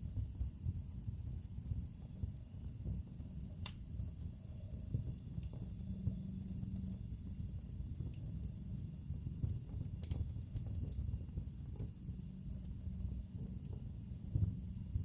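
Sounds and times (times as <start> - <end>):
burning logs crackling and popping: 0.0 - 15.0
fire flames rumbling: 0.0 - 15.0.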